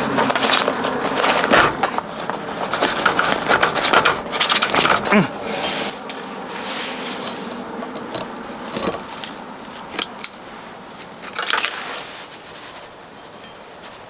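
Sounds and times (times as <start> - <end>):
rustling and scraping objects: 0.0 - 14.0.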